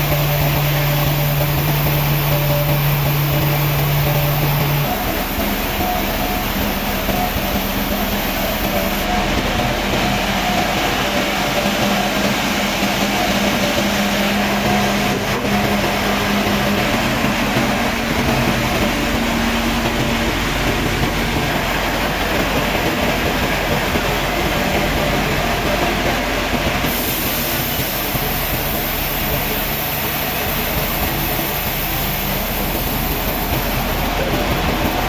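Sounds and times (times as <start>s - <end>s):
sawmill machinery humming: 0.0s - 35.0s.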